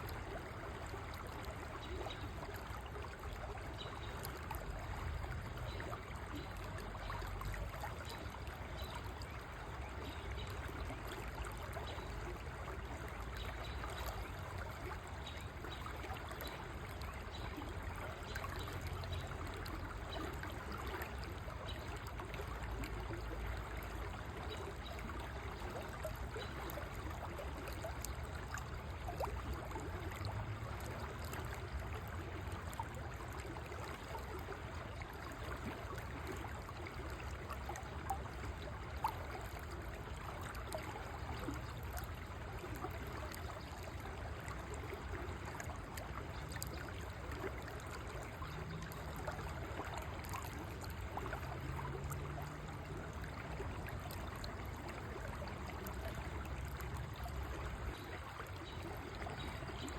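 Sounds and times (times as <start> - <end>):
water trickling and burbling: 0.0 - 59.9.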